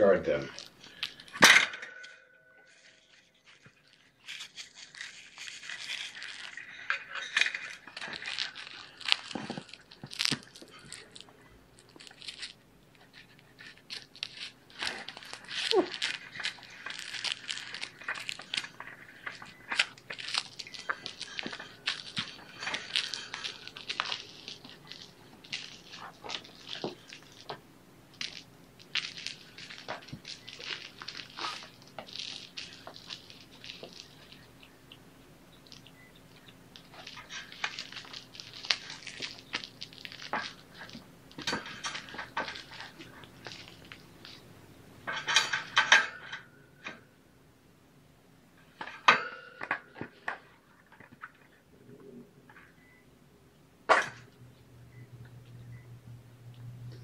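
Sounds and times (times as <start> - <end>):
crinkle toys crinkling and crackling: 0.0 - 47.0, 48.6 - 53.0.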